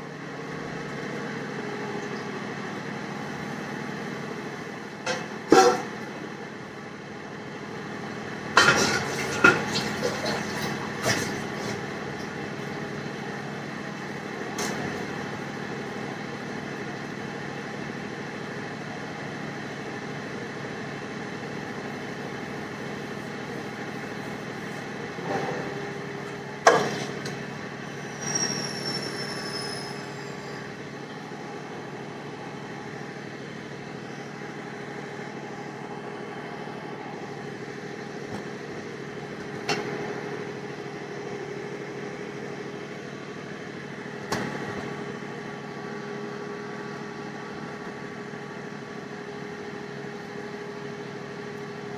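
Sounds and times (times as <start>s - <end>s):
steady background hum: 0.0s - 51.9s.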